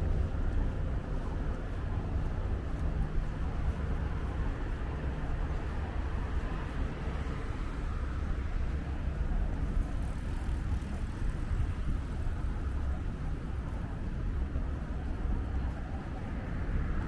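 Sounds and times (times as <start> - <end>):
faint street noise: 0.0 - 17.0.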